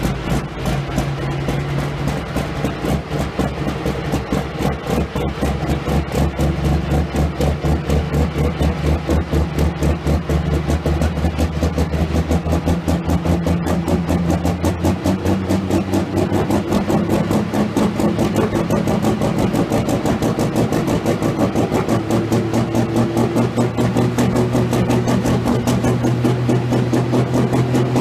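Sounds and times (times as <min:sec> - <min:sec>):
tractor engine idling: 0:00.0 - 0:28.0.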